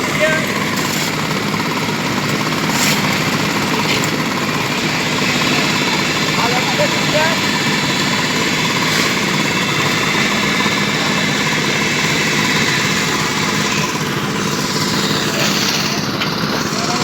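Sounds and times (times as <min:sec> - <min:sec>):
construction machinery engine running: 0:00.0 - 0:17.0.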